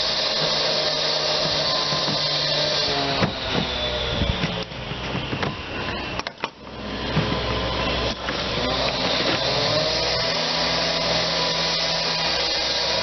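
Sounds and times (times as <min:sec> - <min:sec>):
concrete saw whining: 0:00.0 - 0:13.0.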